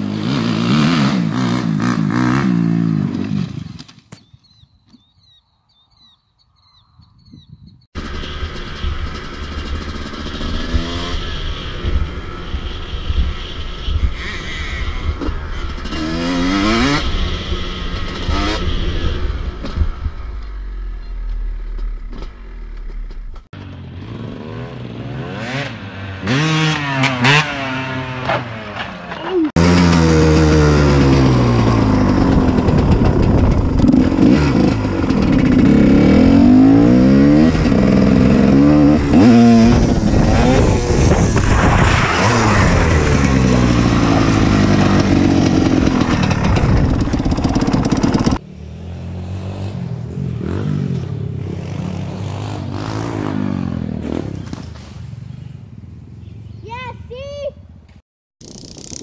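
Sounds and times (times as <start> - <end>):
dirt bike engines revving: 0.0 - 3.9, 7.9 - 57.4.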